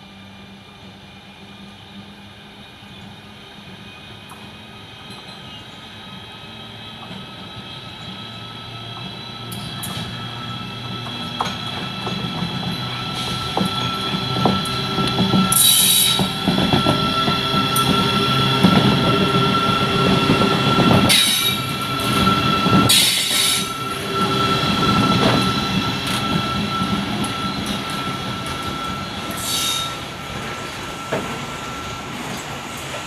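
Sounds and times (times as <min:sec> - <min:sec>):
train wheels rumbling on rails: 0:00.0 - 0:33.0
high squeal: 0:05.4 - 0:32.6.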